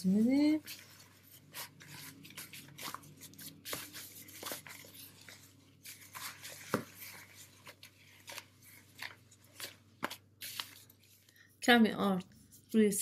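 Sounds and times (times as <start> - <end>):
gloved hands kneading dough: 0.0 - 11.6.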